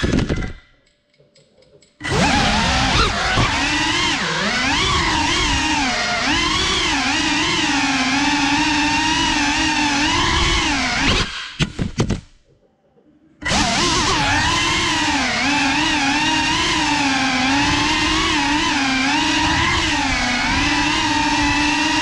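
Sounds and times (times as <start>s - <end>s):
drone motors whining: 2.0s - 11.5s, 13.4s - 22.0s.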